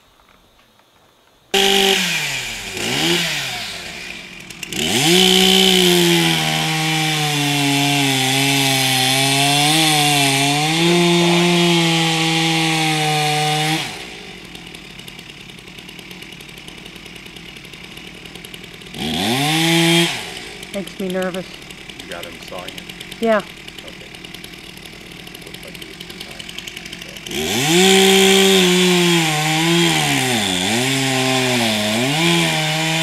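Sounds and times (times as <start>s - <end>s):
chainsaw cutting wood: 1.5s - 33.0s.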